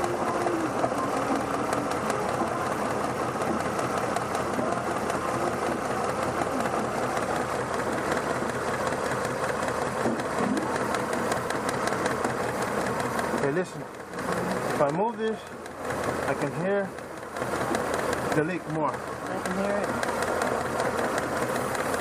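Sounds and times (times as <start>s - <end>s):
engine idling with fast ticking: 0.0s - 22.0s.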